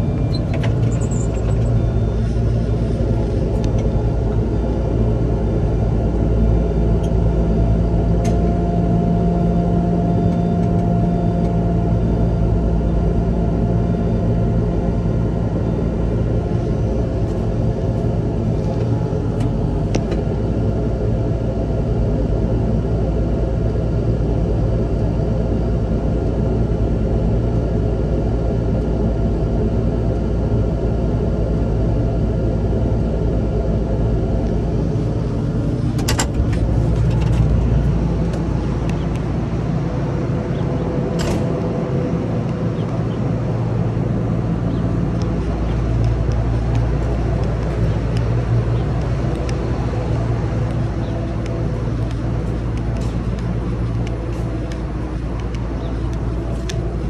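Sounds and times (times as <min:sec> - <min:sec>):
large engine running: 0:00.0 - 0:57.0.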